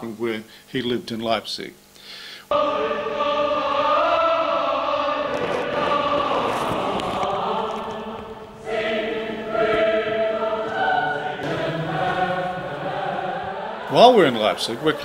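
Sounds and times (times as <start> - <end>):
choir singing sustained chords: 2.5 - 15.0.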